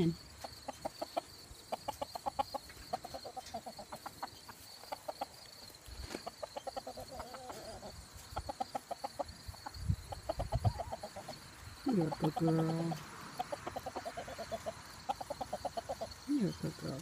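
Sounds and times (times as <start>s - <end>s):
hen clucking: 0.0s - 17.0s.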